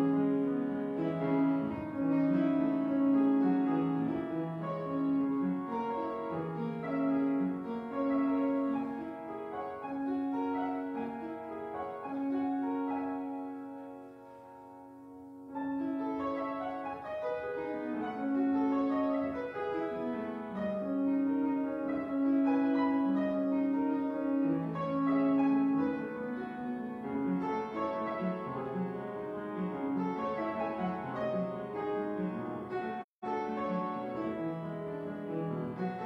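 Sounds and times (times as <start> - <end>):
upright piano playing: 0.0 - 36.0.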